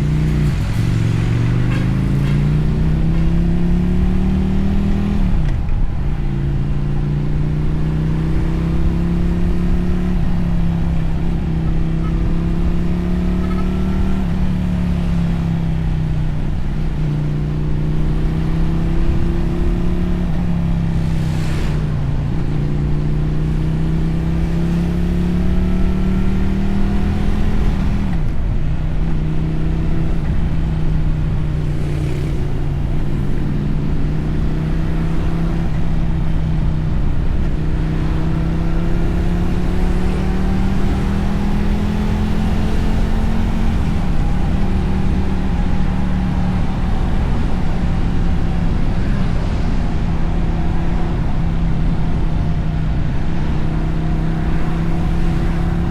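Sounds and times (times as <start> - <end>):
low rumble: 0.0 - 55.0
motorcycle engine shifting gears: 0.0 - 55.9.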